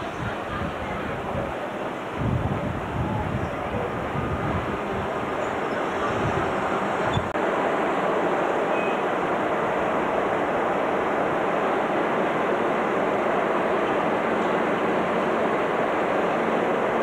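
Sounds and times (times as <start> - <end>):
train rushing noise: 0.0 - 17.0.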